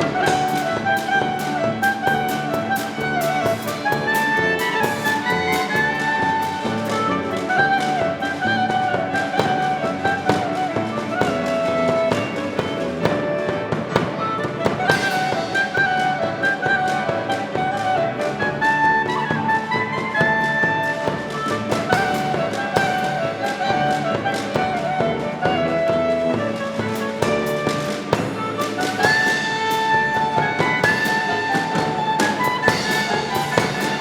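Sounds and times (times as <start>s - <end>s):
klezmer ensemble playing: 0.0s - 34.0s.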